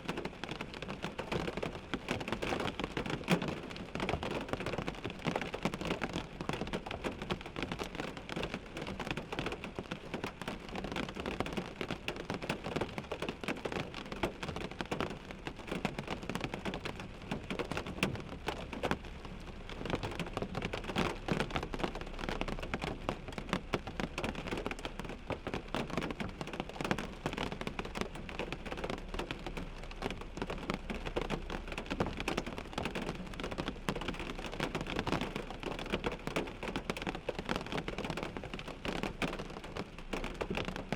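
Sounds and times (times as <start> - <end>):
rain on a car windshield: 0.0 - 40.9.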